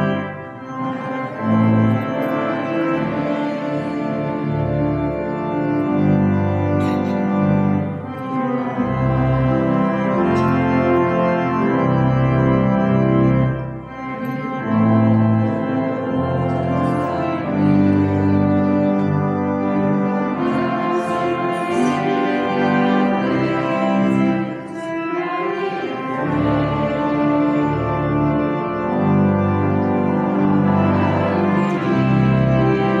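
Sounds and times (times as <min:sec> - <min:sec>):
organ playing a hymn: 0:00.0 - 0:33.0.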